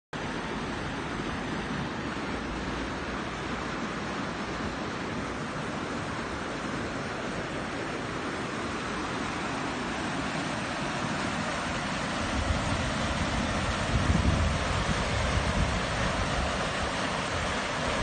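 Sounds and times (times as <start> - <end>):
river water rushing: 0.2 - 18.0.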